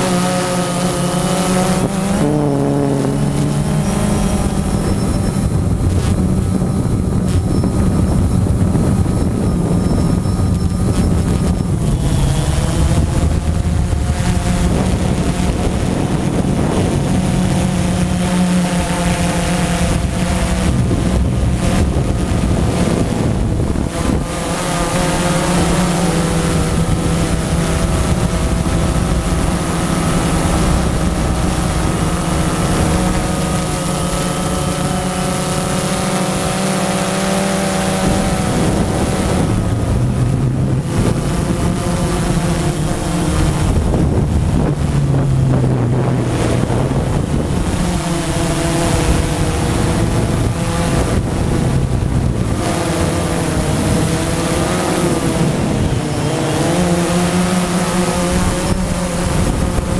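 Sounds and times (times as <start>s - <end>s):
drone propellers buzzing: 0.0s - 59.9s
wind on microphone: 0.0s - 59.9s.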